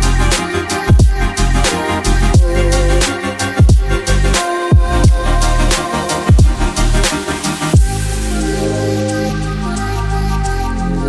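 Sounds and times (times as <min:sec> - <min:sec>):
electronic music with bass drop: 0:00.0 - 0:11.0.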